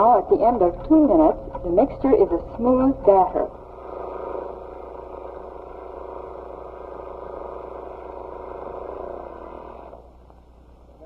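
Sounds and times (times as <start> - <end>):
electric stand mixer beating batter: 0.8 - 10.1.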